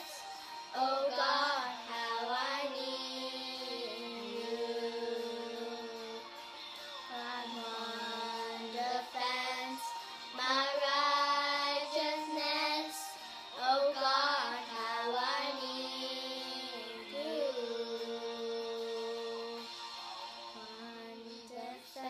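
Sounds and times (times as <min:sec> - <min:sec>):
children singing a worship song: 0:00.0 - 0:06.2, 0:07.1 - 0:19.7.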